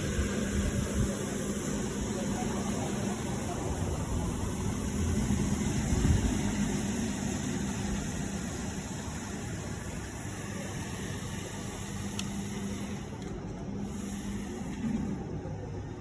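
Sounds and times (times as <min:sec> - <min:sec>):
carpet cleaning machine motor humming: 0:00.0 - 0:15.3.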